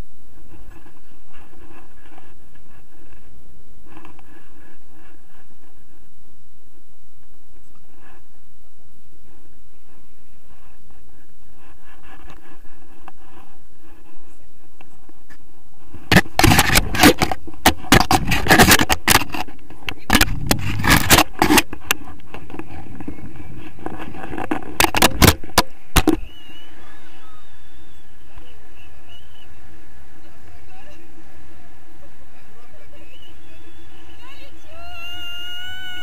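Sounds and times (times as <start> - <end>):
wind over microphone: 0.0 - 36.0.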